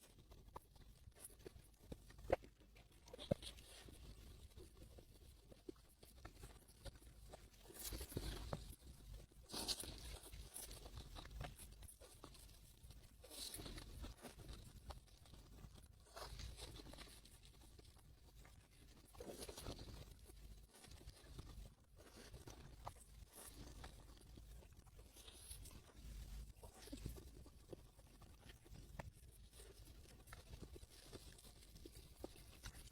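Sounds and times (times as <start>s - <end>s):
crunching and chewing wafer: 0.0s - 32.9s.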